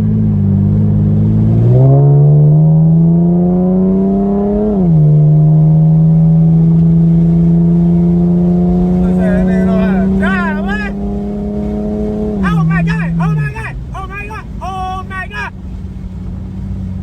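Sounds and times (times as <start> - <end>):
car engine accelerating: 0.2 - 14.6.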